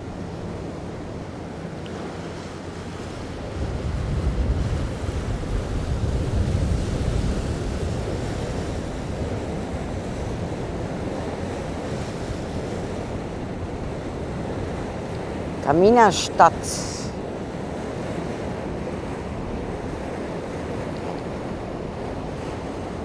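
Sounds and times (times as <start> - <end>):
wind buffeting microphone: 0.0 - 15.6, 17.1 - 23.0
water rushing past boat: 0.0 - 23.0.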